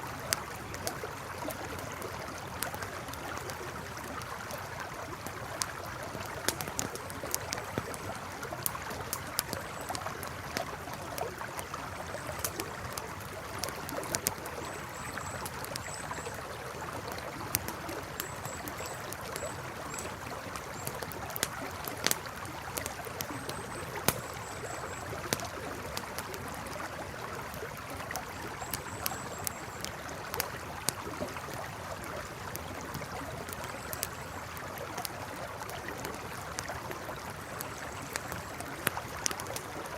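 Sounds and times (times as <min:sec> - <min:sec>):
campfire crackling: 0:00.0 - 0:39.9
flowing river: 0:00.0 - 0:39.9.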